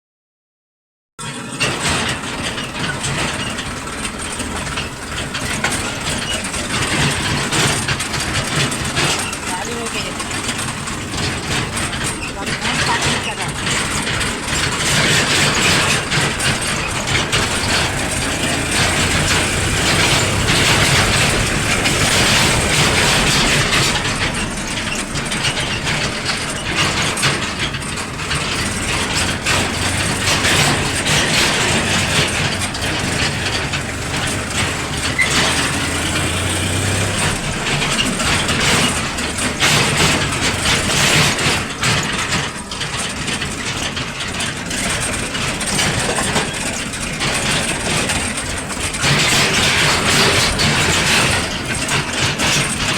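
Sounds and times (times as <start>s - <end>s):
machinery clatter and rattling: 1.2s - 52.9s
diesel engine hum: 1.4s - 52.9s.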